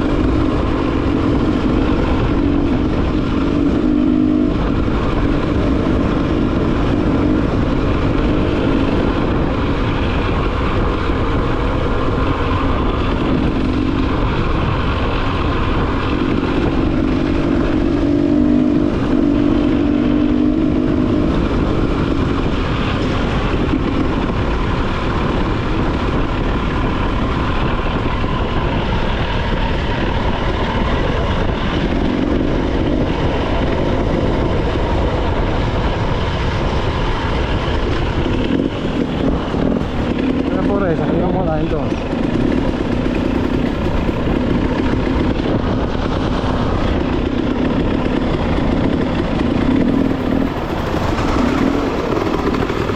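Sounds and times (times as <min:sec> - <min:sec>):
motorcycle engine running: 0:00.0 - 0:52.9
wind rush on microphone: 0:00.0 - 0:52.9.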